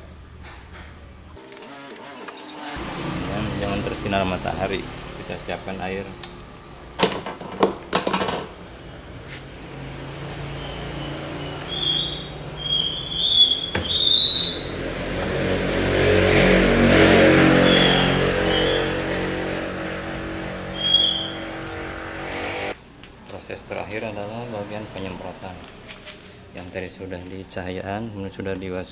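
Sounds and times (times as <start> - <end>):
passing engine: 1.8 - 22.8, 23.6 - 26.6.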